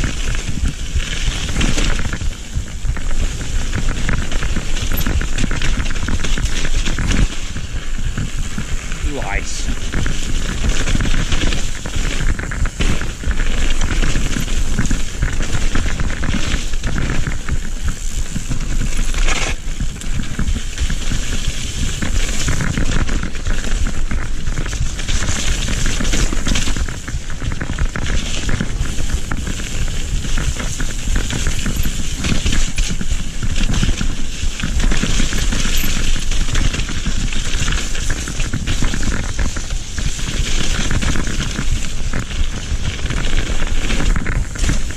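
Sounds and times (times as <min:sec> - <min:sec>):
bike rattling over rough ground: 0:00.0 - 0:44.9
bike tyres on mud: 0:00.0 - 0:44.9
wind buffeting microphone: 0:00.0 - 0:44.9.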